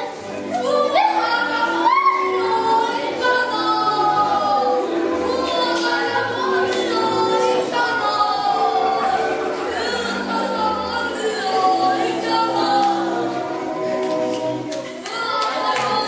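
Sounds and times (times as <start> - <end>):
music: 0.0 - 16.0
voices singing together: 0.0 - 16.0.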